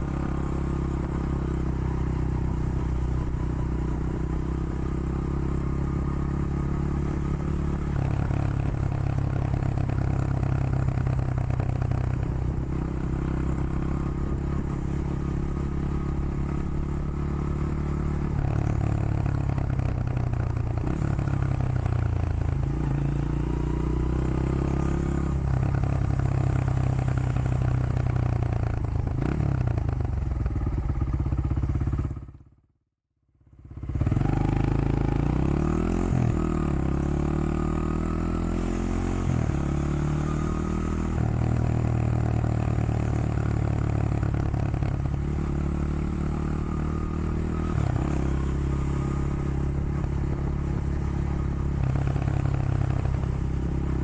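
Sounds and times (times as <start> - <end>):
motorcycle engine running: 0.0 - 32.7, 33.3 - 54.0.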